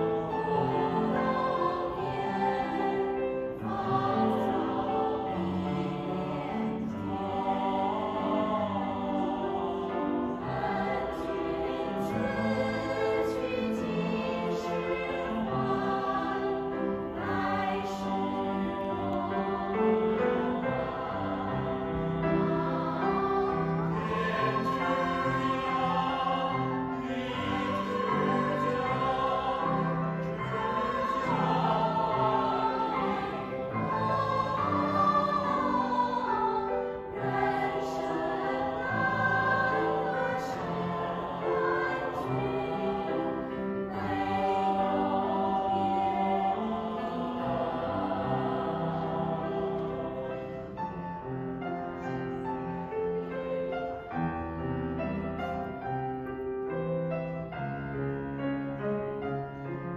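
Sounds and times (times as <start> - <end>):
mixed choir singing: 0.0 - 55.9
grand piano: 0.0 - 59.9.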